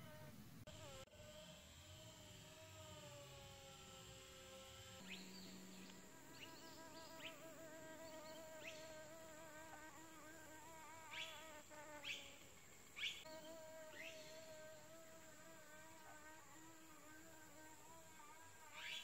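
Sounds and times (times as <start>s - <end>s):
bee buzzing in flight: 0.0s - 19.0s.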